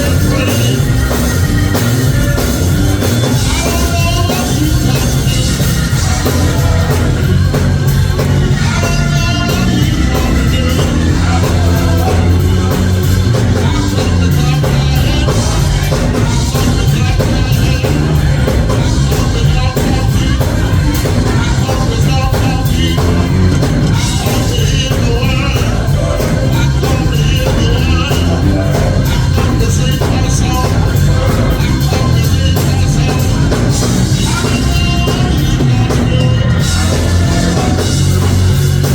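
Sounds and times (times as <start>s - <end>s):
drums: 0.0s - 38.9s
live church band music: 0.0s - 38.9s
people singing: 0.0s - 38.9s
strong bass: 0.0s - 38.9s.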